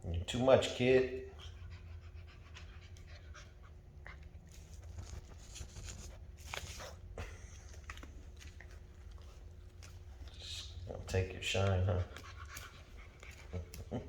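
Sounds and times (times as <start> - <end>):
steady low hum: 0.0 - 14.0
puppies panting softly: 0.3 - 14.0.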